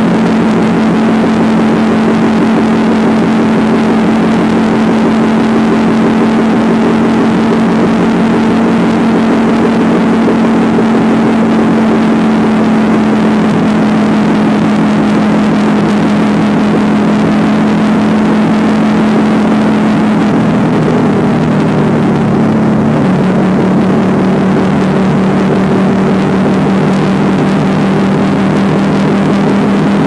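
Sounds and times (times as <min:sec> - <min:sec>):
motorcycle engine humming: 0:00.0 - 0:30.0
wind and road noise: 0:00.0 - 0:30.0.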